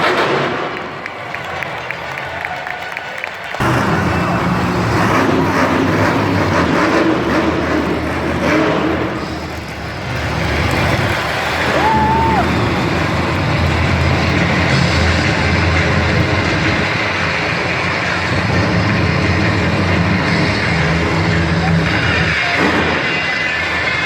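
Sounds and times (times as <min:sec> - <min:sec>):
monster truck engine running: 0:03.3 - 0:24.0.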